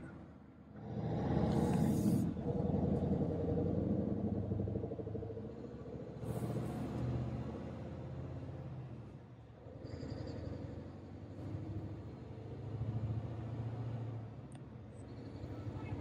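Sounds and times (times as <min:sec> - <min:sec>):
diesel truck engine purring: 0:00.0 - 0:16.0.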